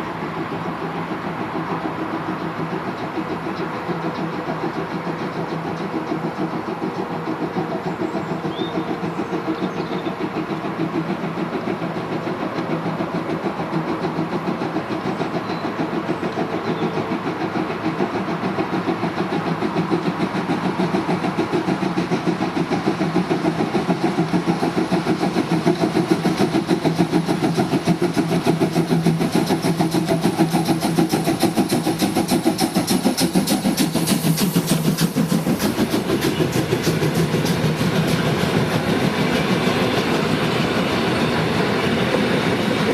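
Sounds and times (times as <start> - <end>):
locomotive engine pulsing: 0.0 - 42.9
wheel and rail clicks: 0.6 - 42.9.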